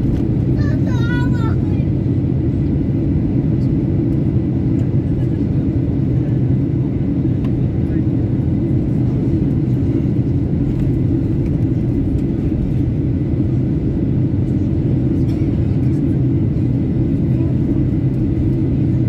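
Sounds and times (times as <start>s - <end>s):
airliner engine and airflow drone: 0.0s - 19.0s.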